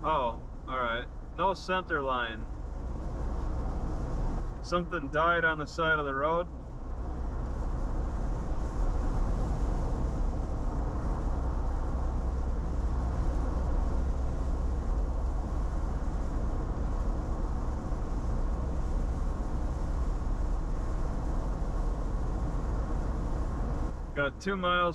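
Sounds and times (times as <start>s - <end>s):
road and tyre noise in car: 0.0s - 24.9s.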